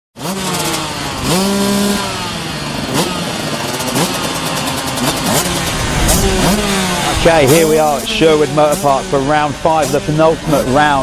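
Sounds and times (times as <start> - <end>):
dirt bike engines racing: 0.2 - 11.0.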